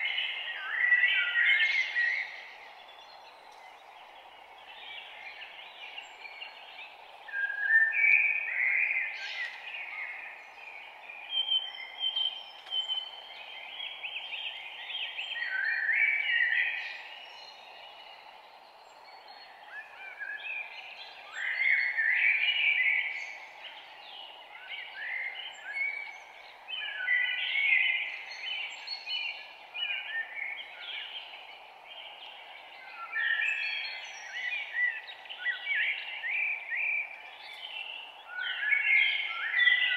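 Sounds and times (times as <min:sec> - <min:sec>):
background hiss: 0:00.0 - 0:39.9
songbirds chirping and singing: 0:00.0 - 0:39.9.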